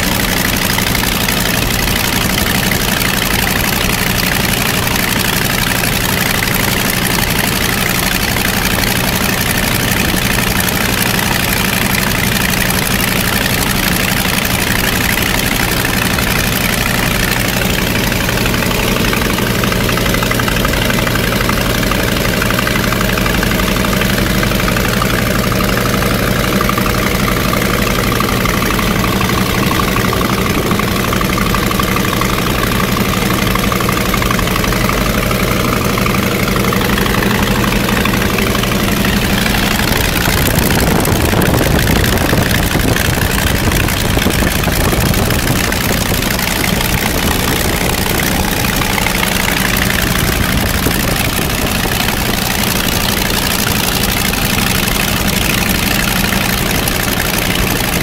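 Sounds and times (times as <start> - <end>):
radial aircraft engine running: 0.0 - 58.0.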